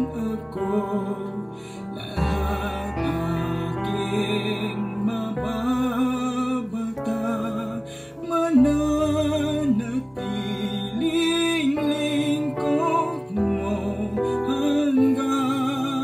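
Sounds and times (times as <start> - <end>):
man singing a slow ballad: 0.0 - 16.0.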